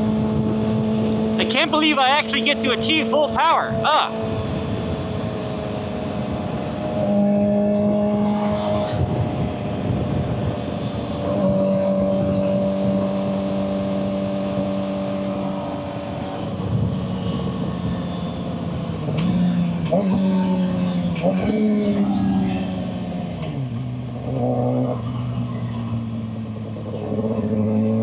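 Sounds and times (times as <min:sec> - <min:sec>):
motorcycle engine running: 0:00.0 - 0:28.0
riding noise: 0:01.1 - 0:24.4.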